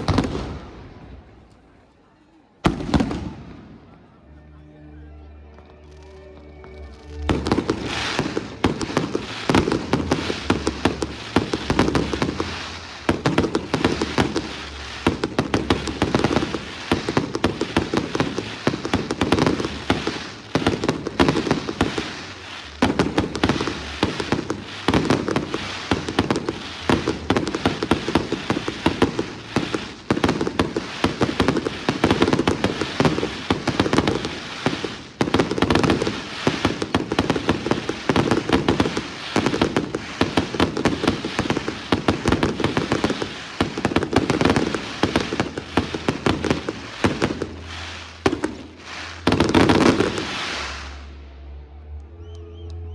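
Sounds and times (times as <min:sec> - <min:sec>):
fireworks bangs and crackle: 0:00.0 - 0:01.9, 0:02.6 - 0:04.2, 0:06.7 - 0:51.6.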